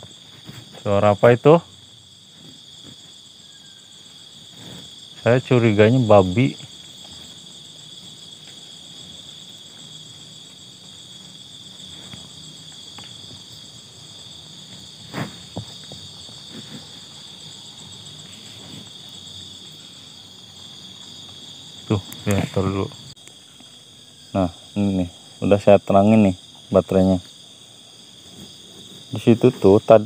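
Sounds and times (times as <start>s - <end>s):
crickets and insects trilling: 0.0s - 30.0s.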